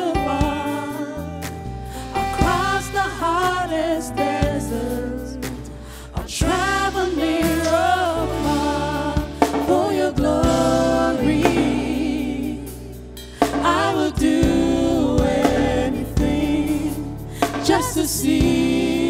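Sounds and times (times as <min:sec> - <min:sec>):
woman singing into a microphone: 0:00.0 - 0:01.4, 0:02.2 - 0:12.7, 0:13.6 - 0:19.0
backing singers: 0:00.0 - 0:19.0.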